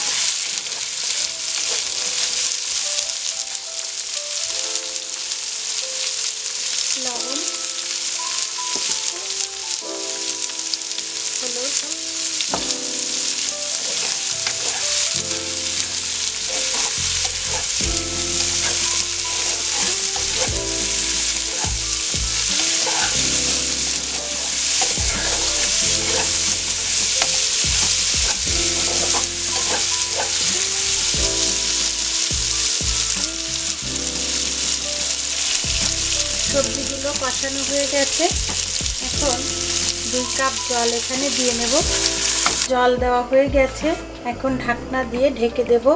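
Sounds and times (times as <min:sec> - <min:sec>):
seeds sizzling in hot oil: 0:00.0 - 0:42.8.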